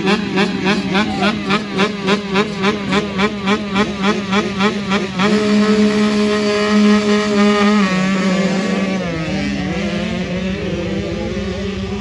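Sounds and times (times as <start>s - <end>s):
two-stroke motocross bike engine revving: 0.0s - 12.0s.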